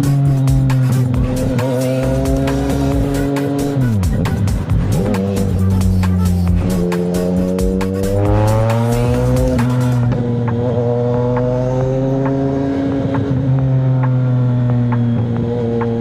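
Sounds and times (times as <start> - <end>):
motorcycle engine accelerating: 0.0 - 16.0
music: 0.0 - 16.0.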